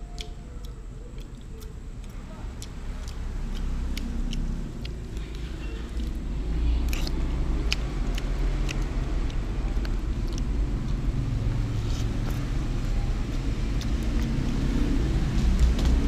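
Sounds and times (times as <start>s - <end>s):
crunchy eating clicks: 0.0s - 12.6s, 13.2s - 16.0s
low rumble: 2.2s - 16.0s.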